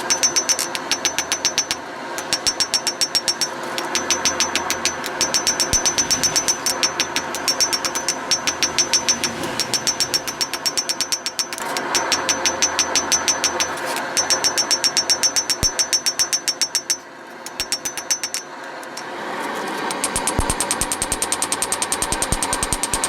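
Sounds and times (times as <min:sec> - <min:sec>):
rapid metallic mechanical clicking: 0:00.0 - 0:23.0
steady machine hum: 0:00.0 - 0:23.0.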